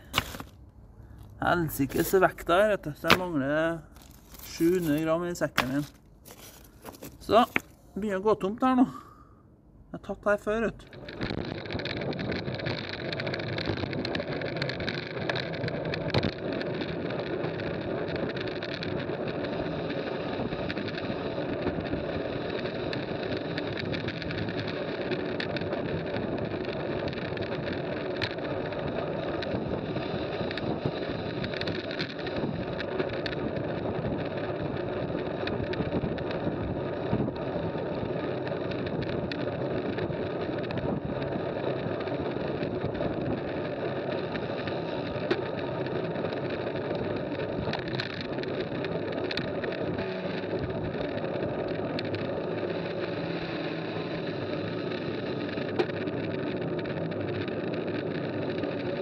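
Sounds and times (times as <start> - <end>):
bike tyres humming on asphalt: 0.0 - 7.9, 10.6 - 59.0
wind rushing over camera: 10.5 - 59.0.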